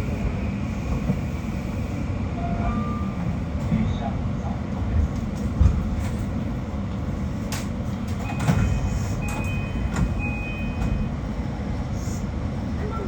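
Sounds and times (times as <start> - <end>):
train interior rumble: 0.0 - 13.0.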